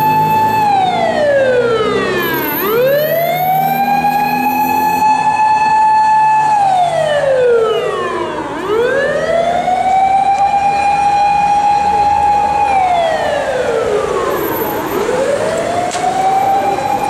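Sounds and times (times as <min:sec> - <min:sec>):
fire truck siren: 0:00.0 - 0:17.0.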